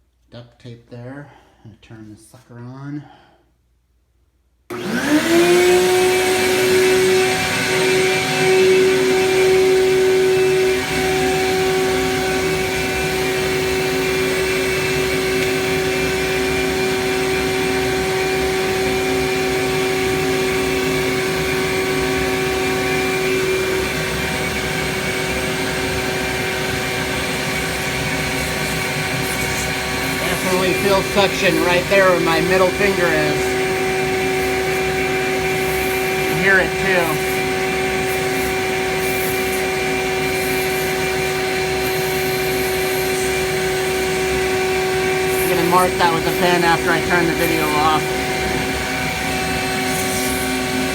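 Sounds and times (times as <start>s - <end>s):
shop vac motor whine: 4.7s - 50.9s.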